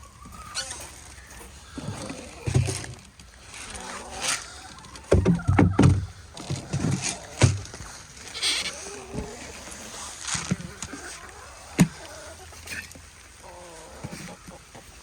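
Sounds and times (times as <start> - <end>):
chickens calling: 0.0 - 15.0.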